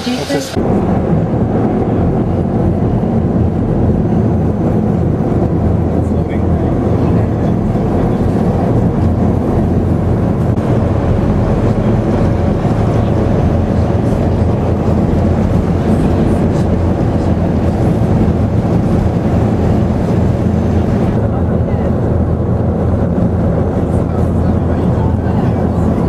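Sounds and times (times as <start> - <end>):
hovercraft loud low drone: 0.0 - 26.0.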